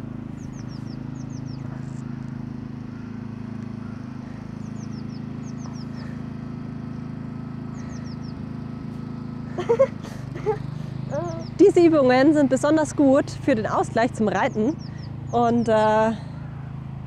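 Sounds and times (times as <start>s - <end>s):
birds chirping: 0.0s - 17.0s
low hum: 0.0s - 17.0s.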